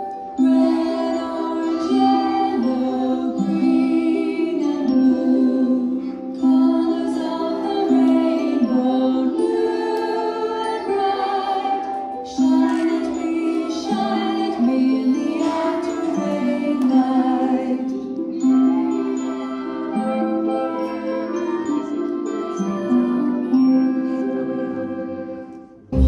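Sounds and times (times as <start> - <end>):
children singing: 0.0 - 26.0
musical accompaniment: 0.0 - 26.0.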